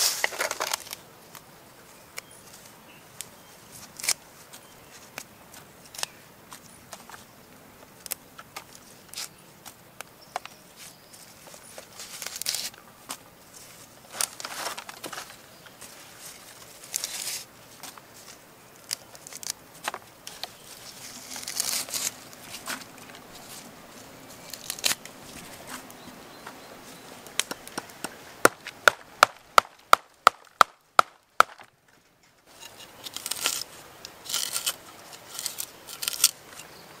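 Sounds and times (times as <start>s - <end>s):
leaves rustling and crinkling: 0.0s - 37.0s.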